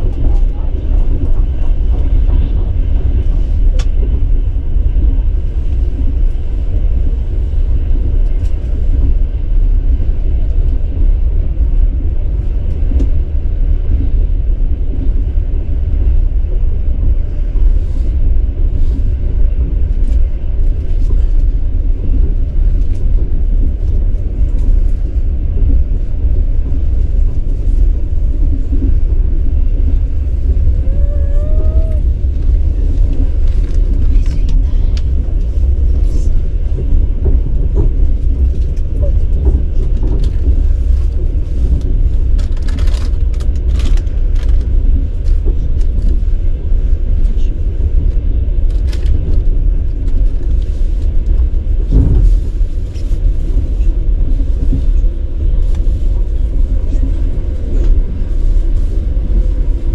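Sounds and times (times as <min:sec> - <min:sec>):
moving vehicle rumble: 0:00.0 - 0:59.9.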